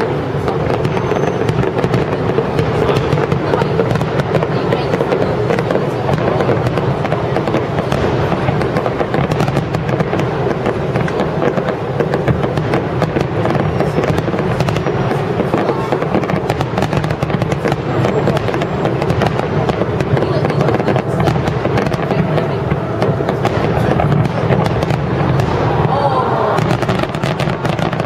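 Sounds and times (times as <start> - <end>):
firework shells bursting: 0.0 - 25.9.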